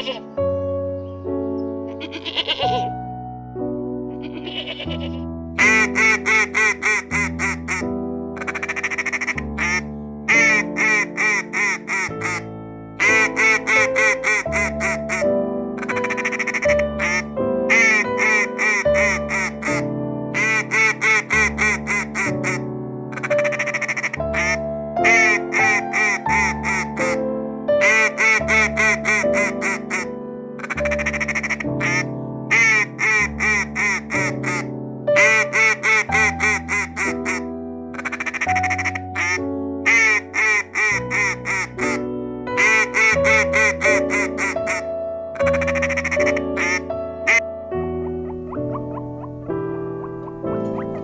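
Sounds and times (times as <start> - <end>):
duck quacking: 0.0 - 0.3, 2.0 - 2.9, 4.3 - 7.8, 8.4 - 15.2, 15.8 - 19.8, 20.4 - 27.2, 27.8 - 42.0, 42.6 - 47.4
simple background music: 0.0 - 4.1, 5.2 - 51.0.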